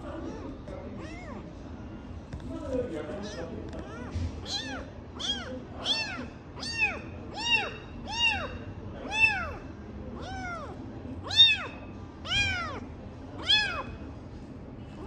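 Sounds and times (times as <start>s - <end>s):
kittens mewing: 0.0s - 1.6s, 3.2s - 14.0s.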